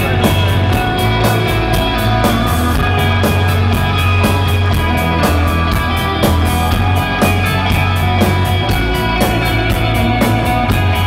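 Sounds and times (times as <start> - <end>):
heavy bass line: 0.0 - 11.0
rock band playing: 0.0 - 11.0.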